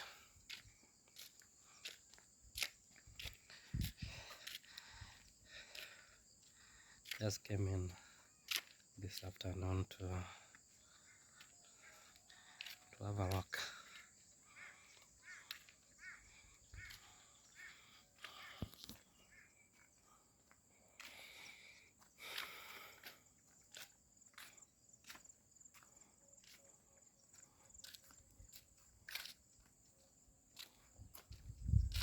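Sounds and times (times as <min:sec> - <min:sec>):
faint footsteps: 0:00.4 - 0:07.2, 0:10.3 - 0:32.0.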